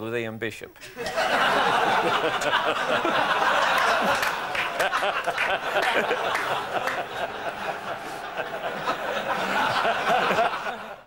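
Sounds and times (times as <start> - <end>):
audience laughing: 0.8 - 11.0.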